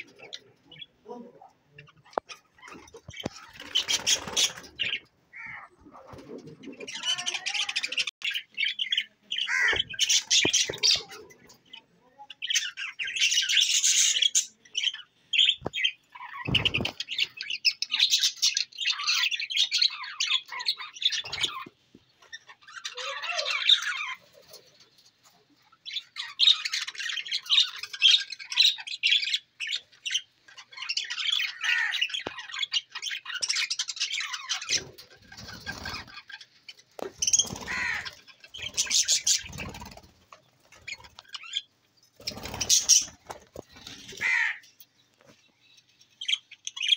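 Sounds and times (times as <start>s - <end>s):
budgerigars chattering and squawking: 0.0s - 24.8s, 25.7s - 44.7s, 46.2s - 46.9s.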